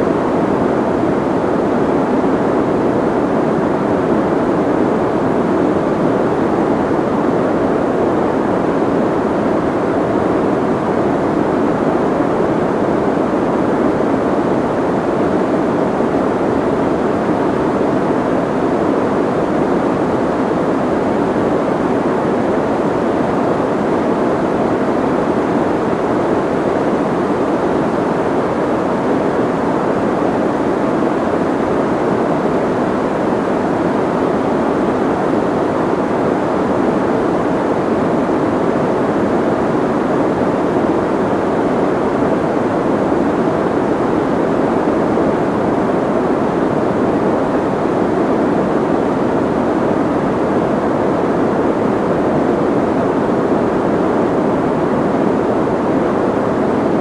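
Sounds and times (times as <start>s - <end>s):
soft white noise: 0.0s - 57.0s.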